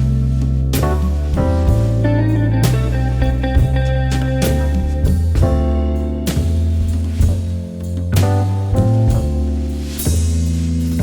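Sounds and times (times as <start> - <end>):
deep bass line: 0.0 - 11.0
drum kit: 0.0 - 11.0
slow jazz-blues music: 0.0 - 11.0.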